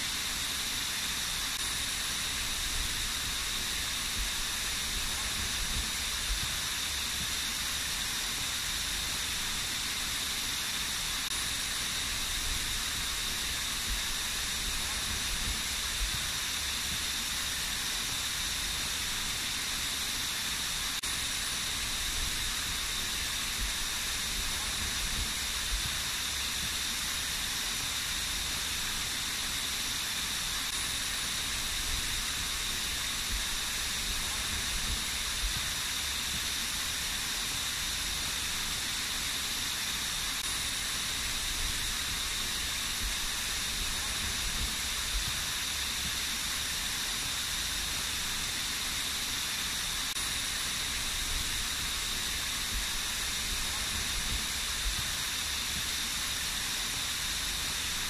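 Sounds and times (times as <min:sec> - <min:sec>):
small waterfall hissing: 0:00.0 - 0:58.0.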